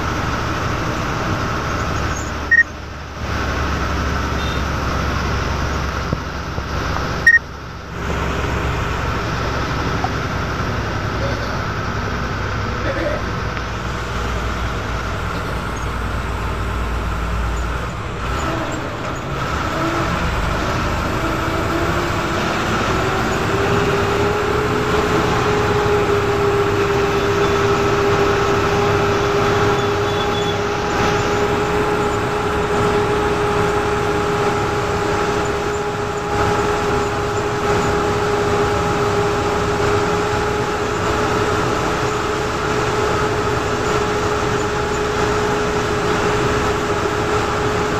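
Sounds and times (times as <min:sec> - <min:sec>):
bus engine hum: 0:00.0 - 0:47.9
rising drivetrain whine: 0:00.0 - 0:47.9
road noise: 0:00.0 - 0:47.9.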